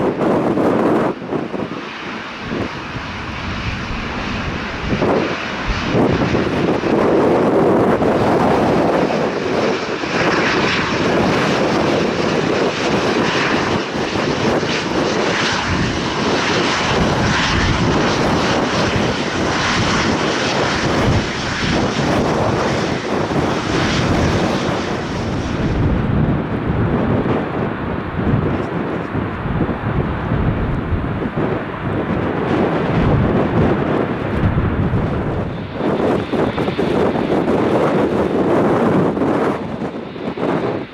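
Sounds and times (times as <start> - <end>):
airliner engines roaring: 0.0 - 40.9.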